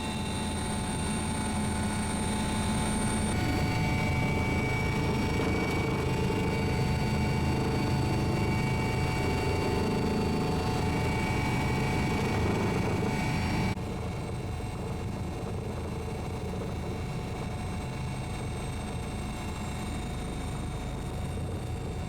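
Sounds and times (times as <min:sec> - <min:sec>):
helicopter rotor and turbine whine: 0:00.0 - 0:22.0.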